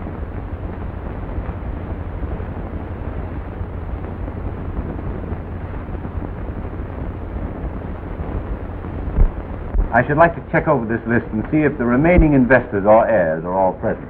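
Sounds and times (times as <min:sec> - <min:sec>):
film soundtrack surface hiss: 0:00.0 - 0:14.0.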